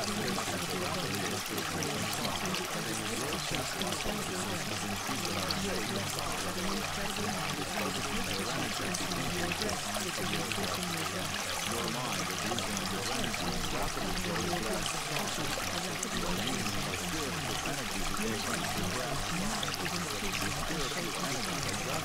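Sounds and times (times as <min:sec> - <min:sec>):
faint voice murmuring: 0:00.0 - 0:22.0
rushing water: 0:00.0 - 0:22.0.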